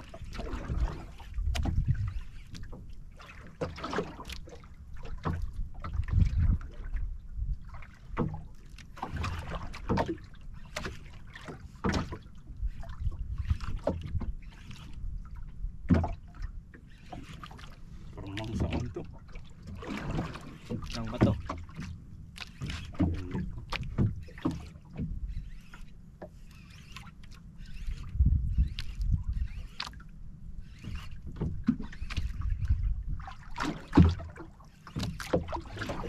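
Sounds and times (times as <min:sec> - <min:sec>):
water splashing against boat hull: 0:00.0 - 0:36.0.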